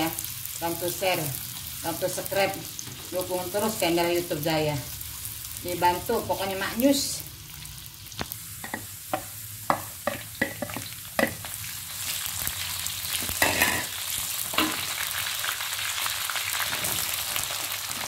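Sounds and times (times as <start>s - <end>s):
shallots sizzling in oil: 0.0s - 18.0s.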